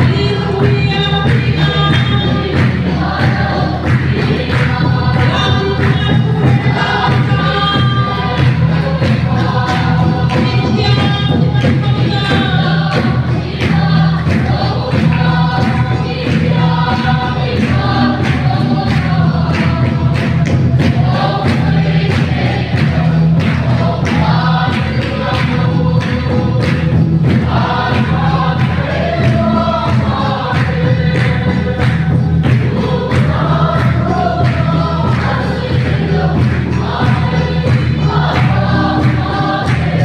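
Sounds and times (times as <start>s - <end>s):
choir singing a hymn: 0.0s - 40.0s
steady beat: 0.0s - 40.0s.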